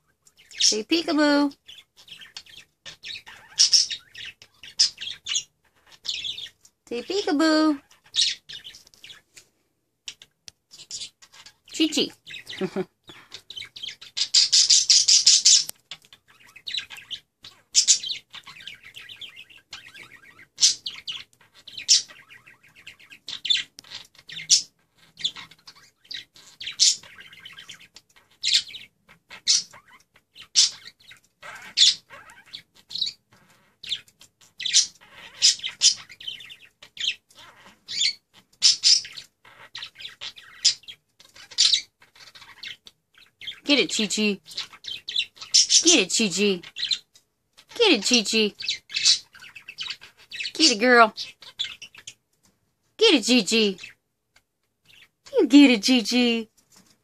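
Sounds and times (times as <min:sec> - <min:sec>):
budgerigars chattering and warbling: 0:00.4 - 0:06.6, 0:07.2 - 0:09.2, 0:10.1 - 0:52.2.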